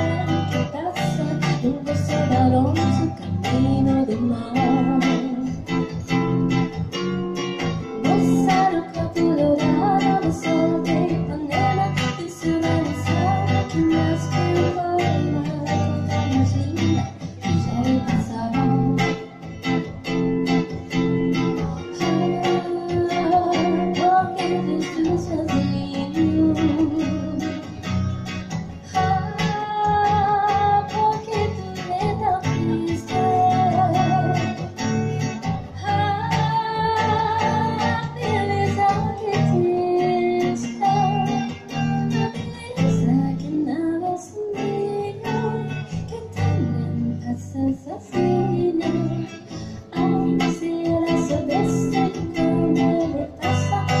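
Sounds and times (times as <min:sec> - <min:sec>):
electric guitar: 0:00.0 - 0:54.0
woman singing with vibrato: 0:00.0 - 0:54.0.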